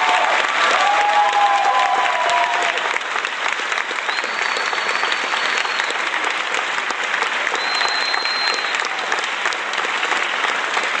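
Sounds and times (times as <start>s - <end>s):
crowd applause: 0.0s - 11.0s.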